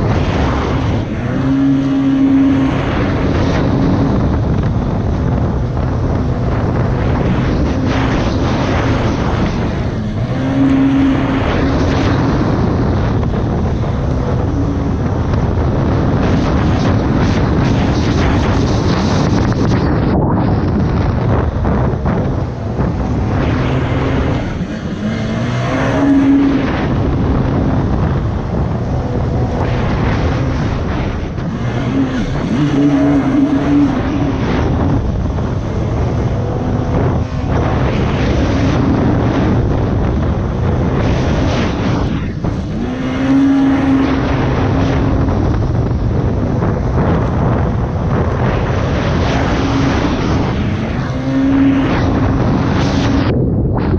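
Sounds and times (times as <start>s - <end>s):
jet ski engine running hard: 0.0s - 53.9s
wind on microphone: 0.0s - 53.9s.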